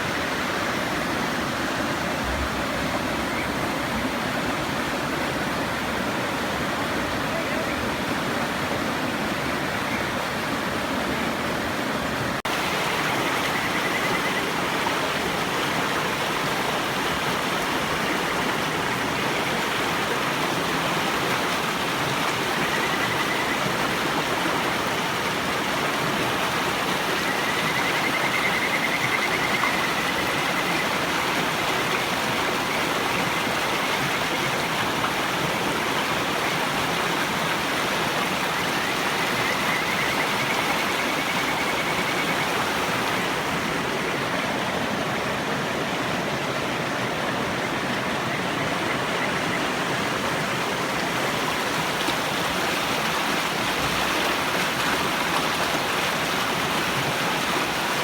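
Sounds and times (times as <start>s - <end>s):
river flowing: 0.0s - 58.0s.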